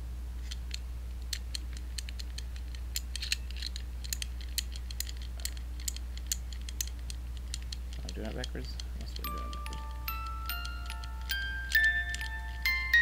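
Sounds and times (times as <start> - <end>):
music box mechanism clicking: 0.4 - 13.0.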